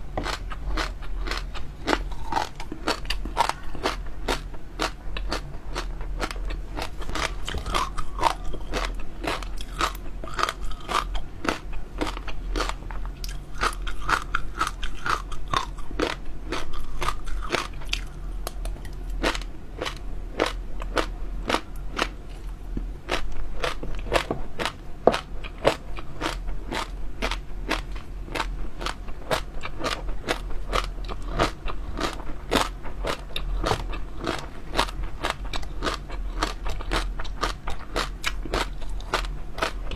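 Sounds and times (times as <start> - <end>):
crunching and chewing: 0.1 - 39.9.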